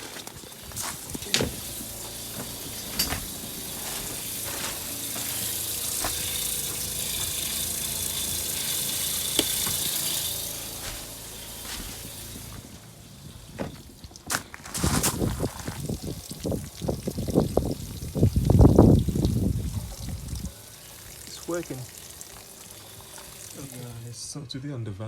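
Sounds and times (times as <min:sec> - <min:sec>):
tap water running into sink: 0:00.0 - 0:24.1
electric water pump: 0:00.0 - 0:24.4.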